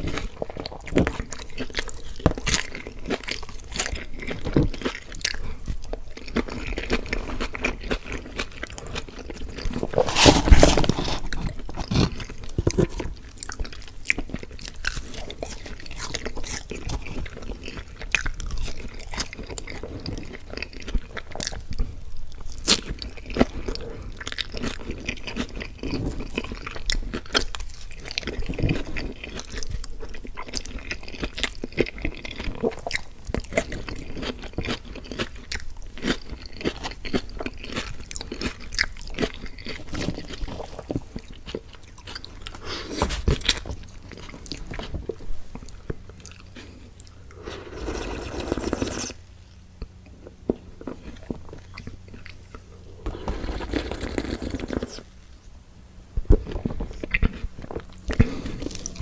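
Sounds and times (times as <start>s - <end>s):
wet chewing with crunches: 0.0s - 59.0s.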